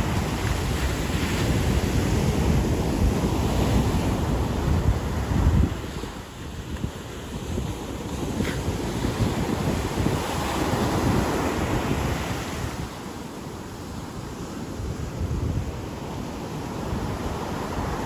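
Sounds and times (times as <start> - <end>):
ocean surf washing onto beach: 0.0 - 18.0
wind rumbling on microphone: 0.0 - 18.0.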